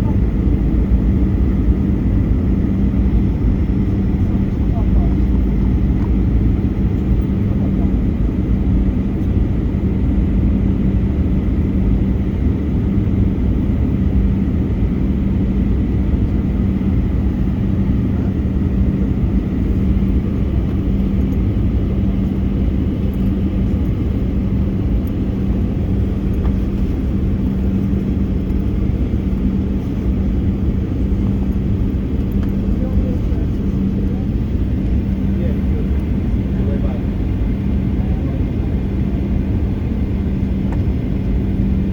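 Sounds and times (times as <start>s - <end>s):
airplane cabin engine drone: 0.0s - 41.9s.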